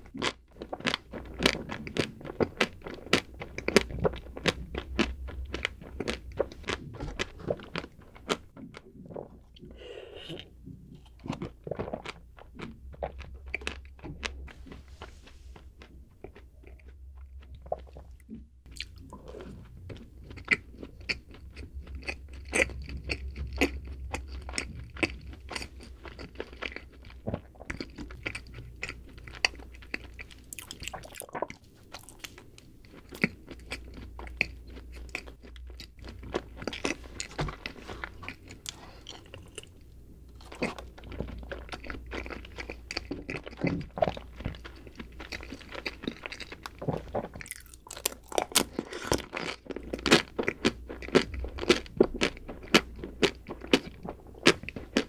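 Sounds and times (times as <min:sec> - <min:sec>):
chewing crunchy snack: 0:00.0 - 0:55.0.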